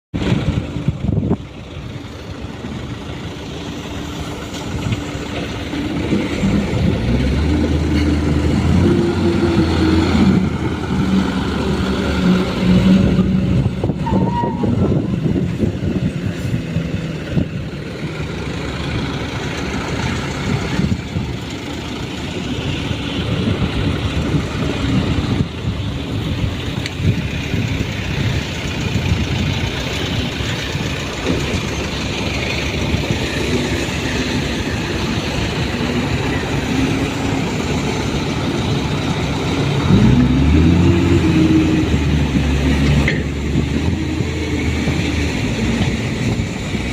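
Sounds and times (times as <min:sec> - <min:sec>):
diesel truck engines running: 0:00.2 - 0:46.9.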